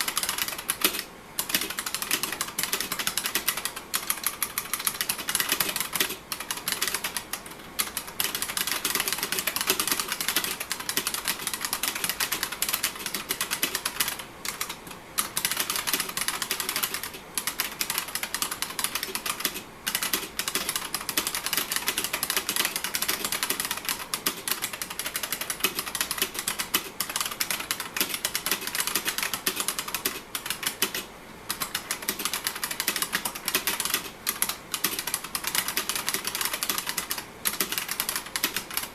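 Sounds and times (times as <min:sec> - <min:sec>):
keyboard keys clicking: 0:00.0 - 0:38.9.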